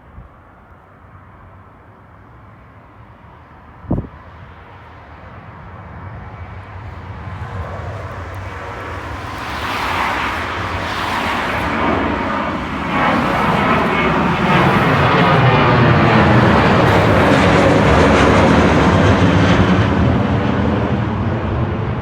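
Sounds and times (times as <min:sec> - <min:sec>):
jet airliner engines: 0:00.0 - 0:22.0.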